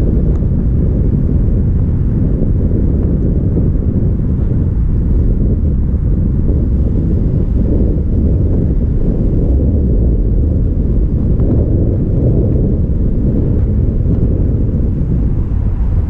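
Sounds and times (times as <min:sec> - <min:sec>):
car driving rumble: 0:00.0 - 0:16.0
wind buffeting microphone: 0:00.0 - 0:16.0.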